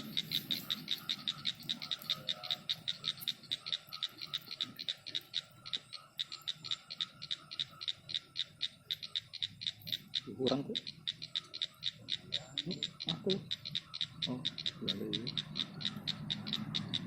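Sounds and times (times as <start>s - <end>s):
frog calling in pulses: 0.0s - 17.0s.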